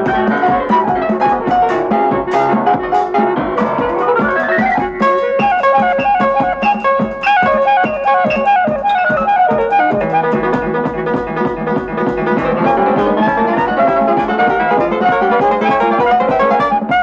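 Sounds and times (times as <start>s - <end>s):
instrumental cartoon music: 0.0s - 17.0s.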